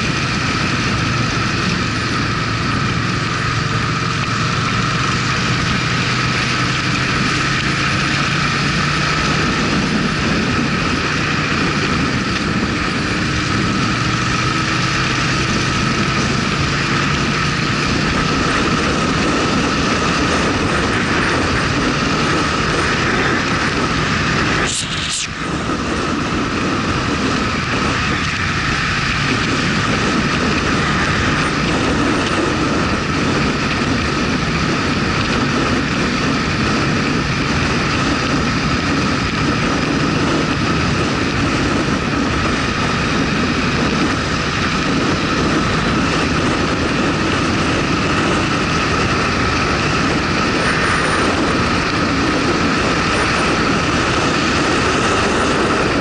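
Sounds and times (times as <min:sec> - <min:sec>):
motorcycle engine running: 0:00.0 - 0:56.0
road and wind noise: 0:00.0 - 0:56.0.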